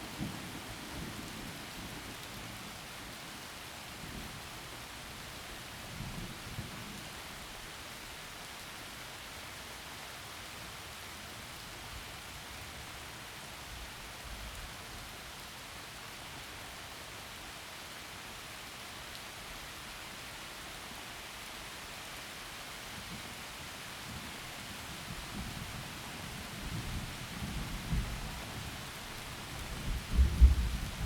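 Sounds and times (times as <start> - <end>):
heavy rain through trees: 0.0 - 31.0.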